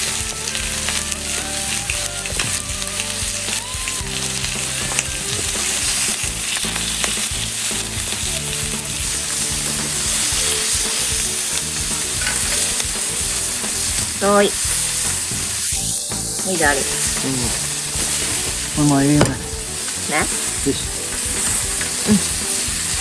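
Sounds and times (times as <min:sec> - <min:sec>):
meat and tofu sizzling on hot plate: 0:00.0 - 0:23.0.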